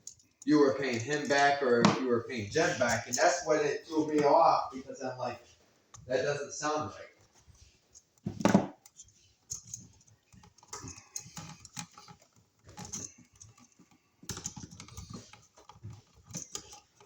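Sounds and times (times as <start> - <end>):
small hard parts clicking: 0.0 - 5.3, 6.8 - 17.0.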